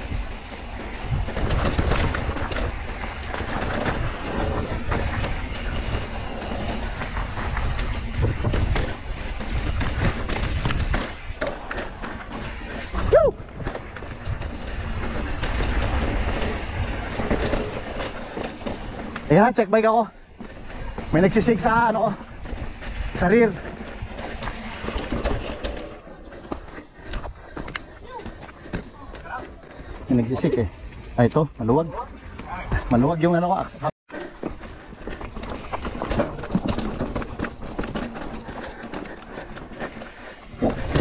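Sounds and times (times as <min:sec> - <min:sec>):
bike clattering over bumps: 0:00.0 - 0:33.2, 0:34.1 - 0:41.0
loose bike part rattling: 0:00.0 - 0:33.4, 0:34.1 - 0:41.0
bike tyres on dirt and rock: 0:00.0 - 0:41.0.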